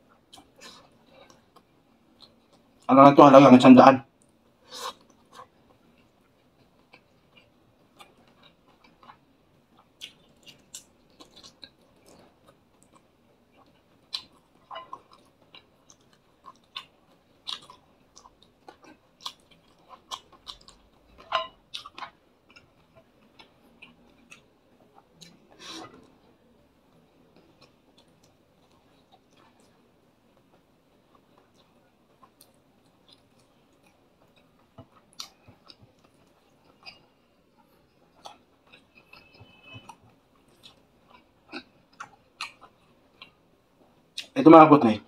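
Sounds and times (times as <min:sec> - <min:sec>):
man chewing food: 0:00.0 - 0:02.9, 0:04.2 - 0:44.3.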